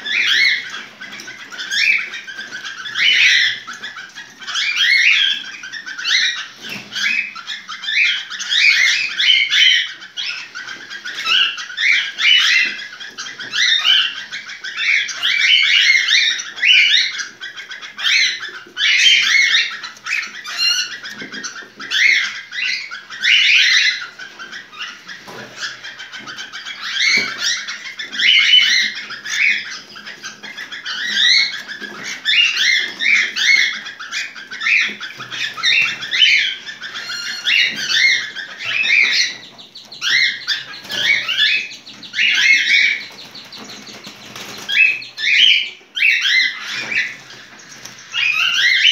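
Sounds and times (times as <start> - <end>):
cockatiel chirping and warbling: 0.0 - 48.9.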